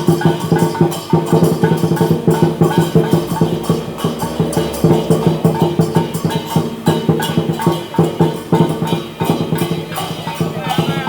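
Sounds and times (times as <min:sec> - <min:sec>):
cymbals clashing: 0:00.0 - 0:11.0
drum beaten in fast rhythm: 0:00.0 - 0:11.0.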